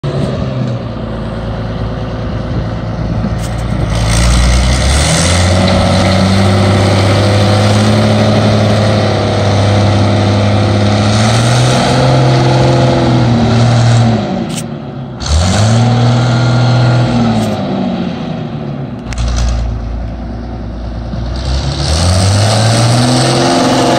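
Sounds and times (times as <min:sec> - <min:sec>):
tractor diesel engine revving: 0:00.0 - 0:23.9.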